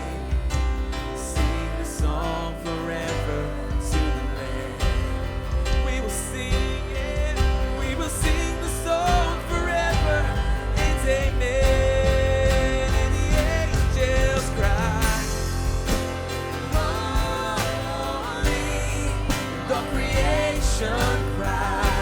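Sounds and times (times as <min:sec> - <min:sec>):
worship band playing: 0:00.0 - 0:22.0.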